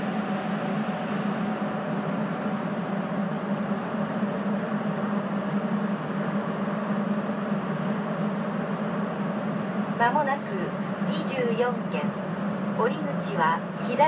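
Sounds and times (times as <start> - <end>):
subway train running in tunnel: 0.0 - 14.0.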